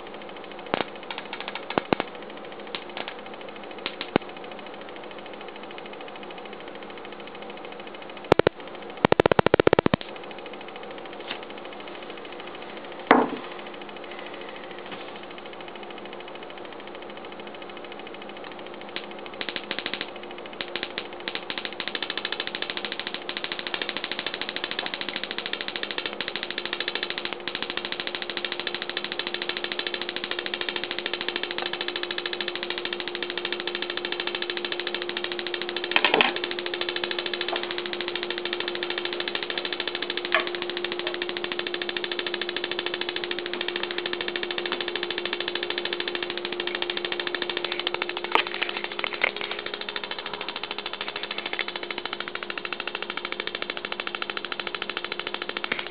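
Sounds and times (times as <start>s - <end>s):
electric sparks snapping: 0.0s - 7.2s, 8.0s - 12.9s, 14.9s - 55.9s
steady electrical hum: 0.0s - 55.9s.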